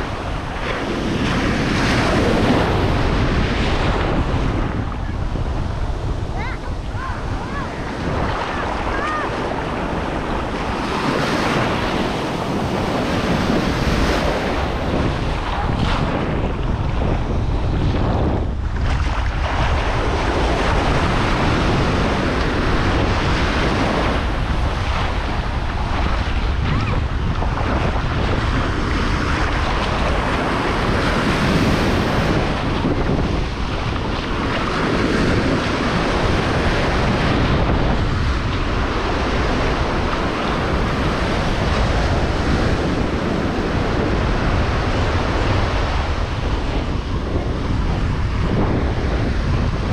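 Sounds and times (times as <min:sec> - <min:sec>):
surf breaking on shore: 0:00.0 - 0:49.9
wind rumbling on microphone: 0:00.0 - 0:49.9.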